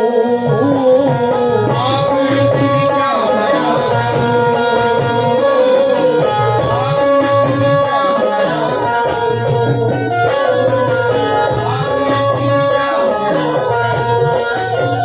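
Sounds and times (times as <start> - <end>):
tabla rhythm: 0.0 - 15.0.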